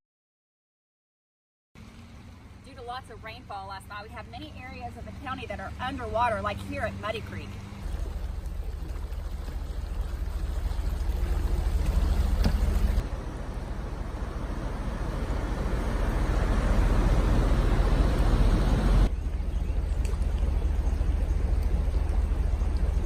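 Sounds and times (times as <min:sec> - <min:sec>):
floodwater rushing: 0:01.8 - 0:23.0.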